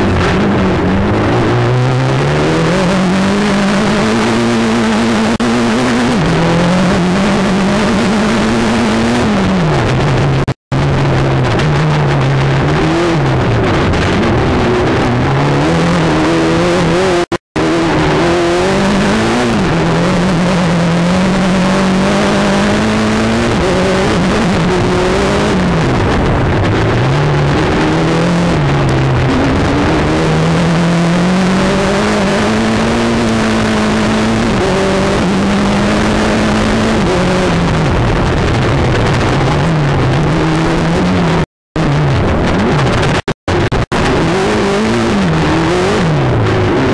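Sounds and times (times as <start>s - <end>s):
car engine revving: 0.0s - 46.9s
road noise: 0.0s - 46.9s.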